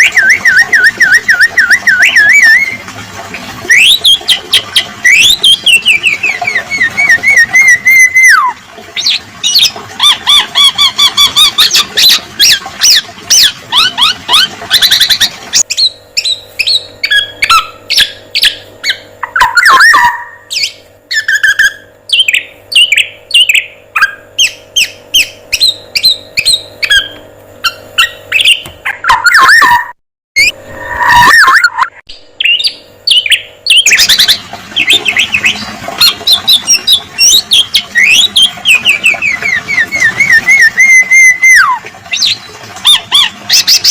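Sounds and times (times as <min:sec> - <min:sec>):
recorded songbird song: 0:00.0 - 0:02.8, 0:03.7 - 0:43.9.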